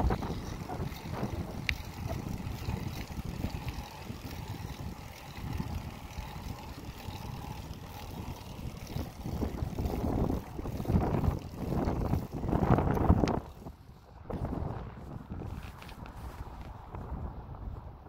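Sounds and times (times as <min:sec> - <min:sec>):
wind buffeting the microphone: 0:00.0 - 0:18.0.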